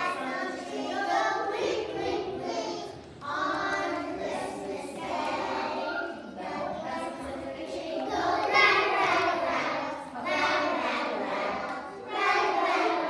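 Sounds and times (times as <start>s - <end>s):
young children singing together: 0.0s - 13.0s.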